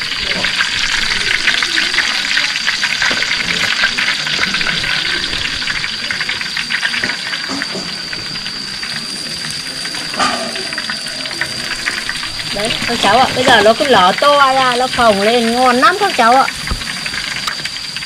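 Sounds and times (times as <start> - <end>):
chicken wings deep-frying: 0.0 - 18.0.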